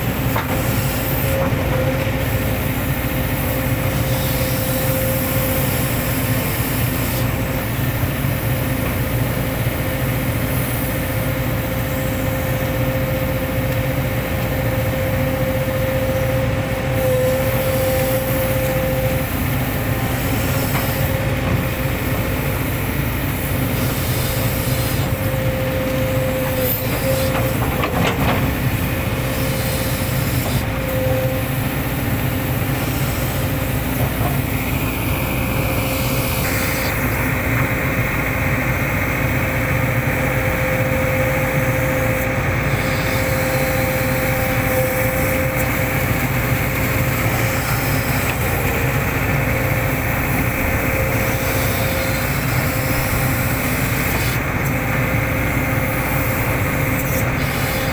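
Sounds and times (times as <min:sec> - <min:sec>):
excavator engine droning: 0:00.0 - 0:57.9
hydraulic whine: 0:00.0 - 0:57.9.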